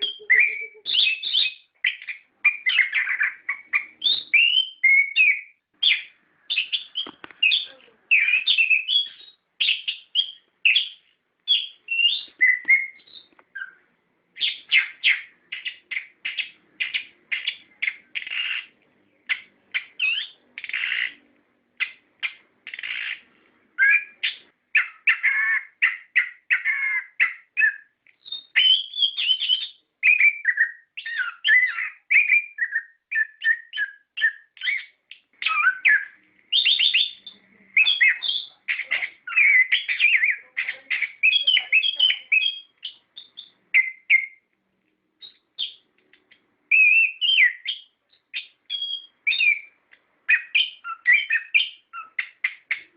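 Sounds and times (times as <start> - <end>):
thrush singing whistled trills: 0.0 - 21.2, 21.8 - 44.5, 45.2 - 52.9.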